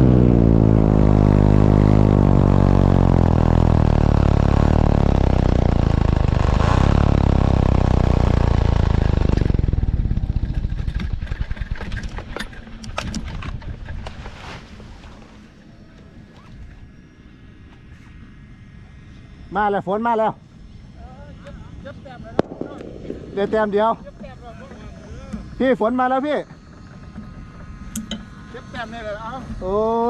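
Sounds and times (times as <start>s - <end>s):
propeller aircraft engine passing: 0.0s - 30.0s.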